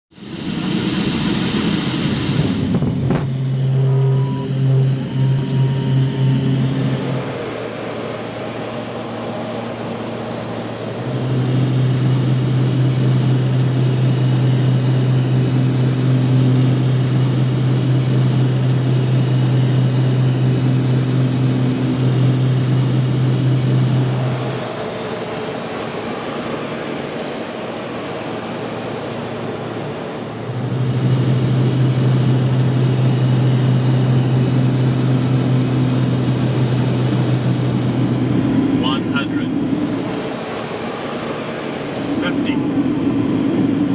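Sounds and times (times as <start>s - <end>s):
propeller plane drone in cabin: 0.1s - 43.9s.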